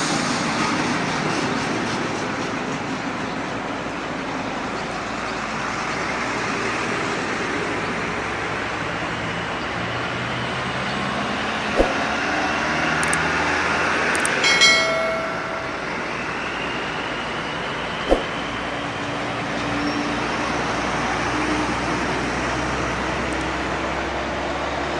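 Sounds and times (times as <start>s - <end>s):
diesel truck engines: 0.0s - 24.9s.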